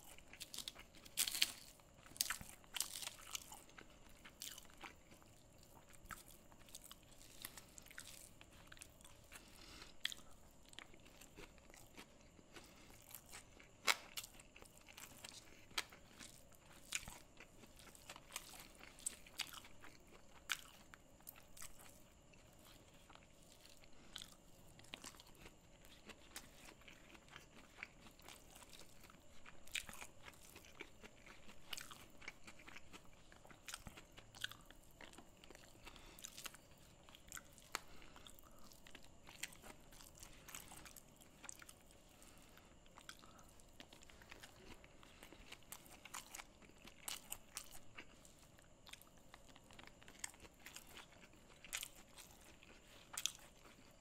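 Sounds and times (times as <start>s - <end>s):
chewing food with crunches: 0.0s - 54.0s.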